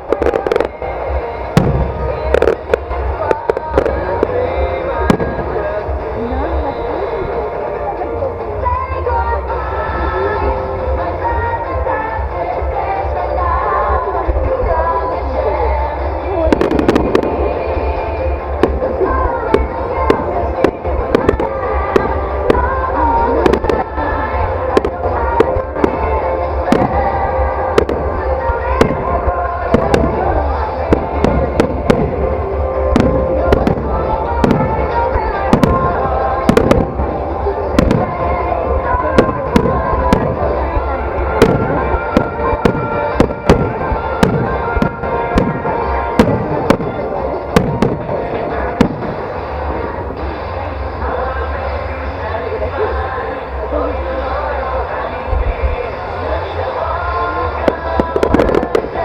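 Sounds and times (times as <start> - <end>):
fireworks bursting with sharp bangs: 0.0 - 59.0
low rumble: 0.0 - 59.0
music playing: 0.0 - 59.0.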